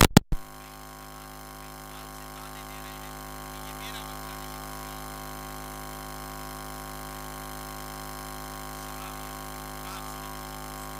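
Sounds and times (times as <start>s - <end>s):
electrical hum: 0.4s - 10.9s.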